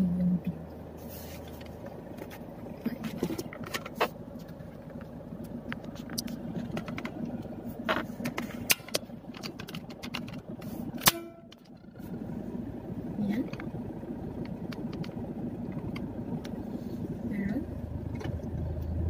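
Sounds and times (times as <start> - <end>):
engine and road hum: 0.0 - 19.0.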